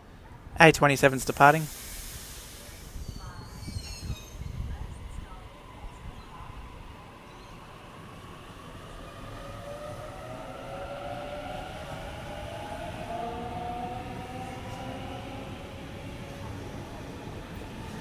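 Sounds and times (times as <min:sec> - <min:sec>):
train low rumble: 0:01.1 - 0:18.0.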